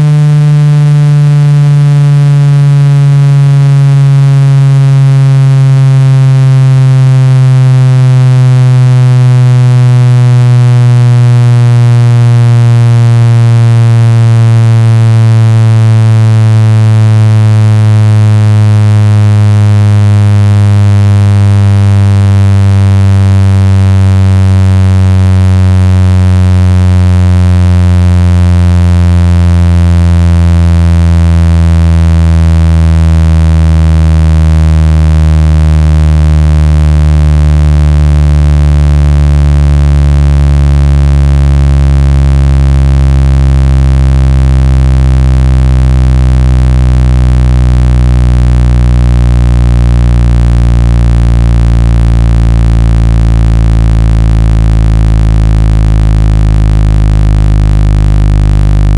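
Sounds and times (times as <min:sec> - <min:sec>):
electronic buzzing tone sliding down: 0:00.0 - 0:58.9.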